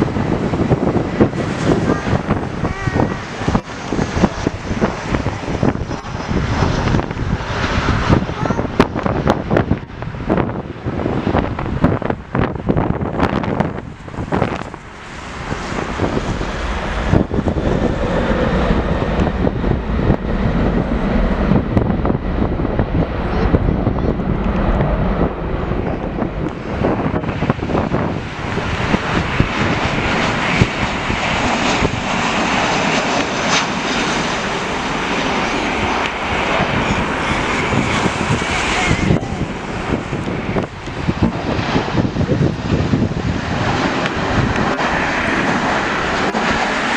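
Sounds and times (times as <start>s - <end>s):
airliner engines rumbling: 0.0s - 46.9s
wind buffeting microphone: 0.0s - 46.9s.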